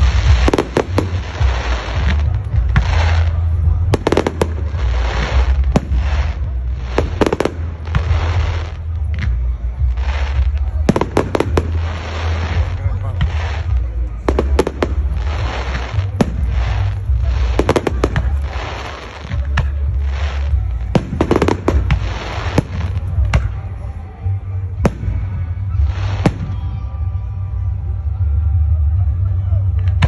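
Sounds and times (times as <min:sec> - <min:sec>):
fireworks hissing: 0:00.0 - 0:23.9, 0:24.8 - 0:26.7
fireworks bangs and crackling: 0:00.0 - 0:27.7, 0:28.8 - 0:30.0.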